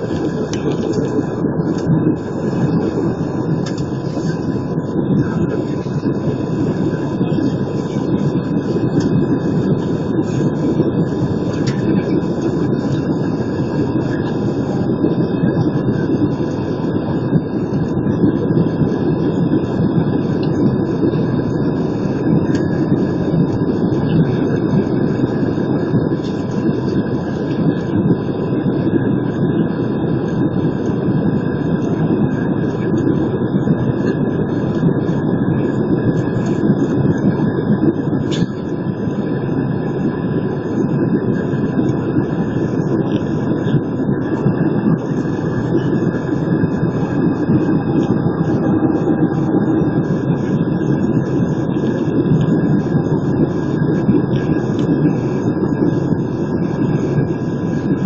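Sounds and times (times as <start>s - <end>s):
airplane cabin roar: 0.0s - 58.0s
faint steady whine: 0.0s - 58.0s.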